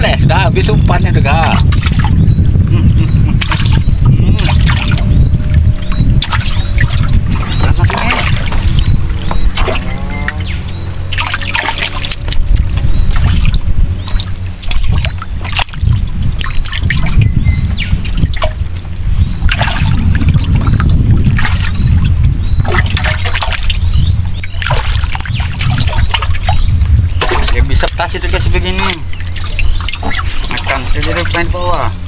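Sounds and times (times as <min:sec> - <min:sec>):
heavy low rumble: 0:00.0 - 0:32.0
water sloshing and trickling: 0:00.0 - 0:32.0.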